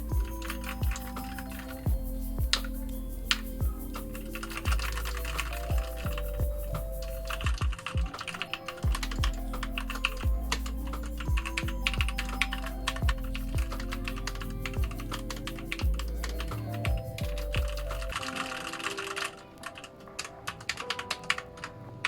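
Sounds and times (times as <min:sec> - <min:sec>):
rapid mechanical keyboard typing: 0:00.0 - 0:21.8.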